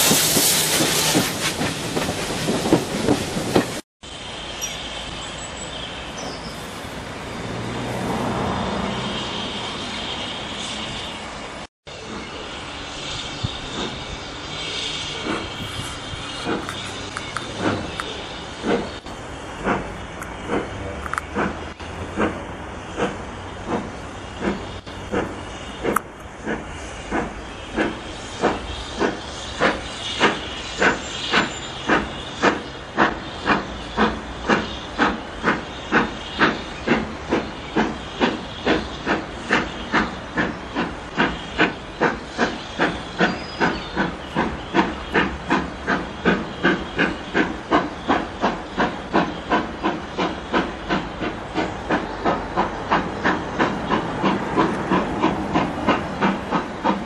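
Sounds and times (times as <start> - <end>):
steam locomotive exhaust chuffing: 0.0 - 11.2, 11.9 - 57.0
hiss of steam: 0.0 - 57.0.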